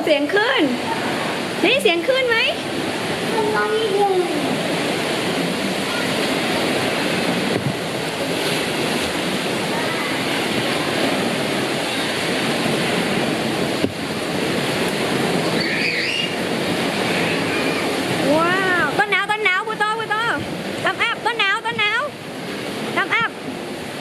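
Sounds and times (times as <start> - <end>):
wave pool water rushing: 0.0 - 24.0.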